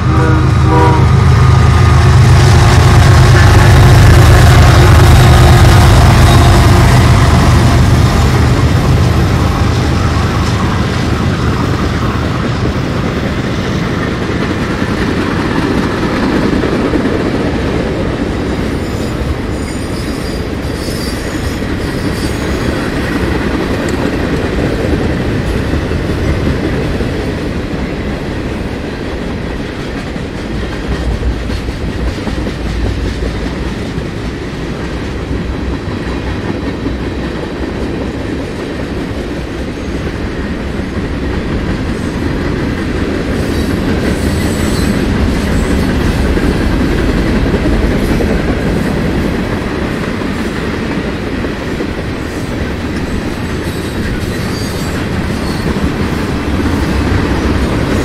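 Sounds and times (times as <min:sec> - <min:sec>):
freight train wheels on rail: 0:00.0 - 0:58.0.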